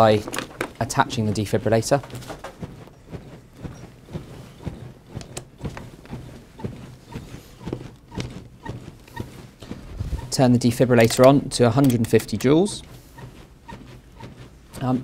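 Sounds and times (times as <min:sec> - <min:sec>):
chest compression knocks and clicks: 0:00.0 - 0:15.0
handling noise: 0:00.0 - 0:15.0.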